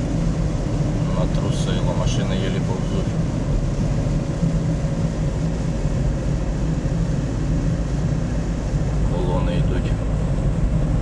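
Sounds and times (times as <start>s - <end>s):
car engine and tyres rumbling: 0.0s - 11.0s
faint whine: 0.0s - 11.0s.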